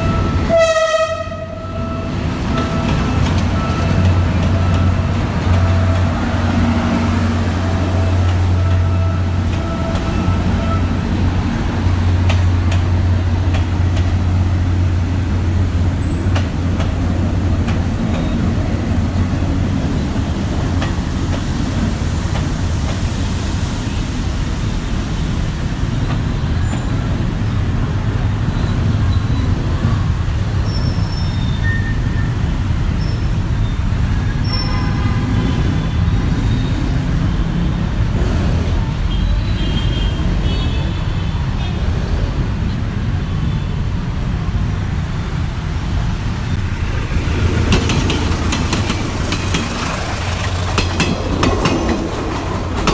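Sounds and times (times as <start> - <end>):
diesel train rumbling: 0.0 - 52.9.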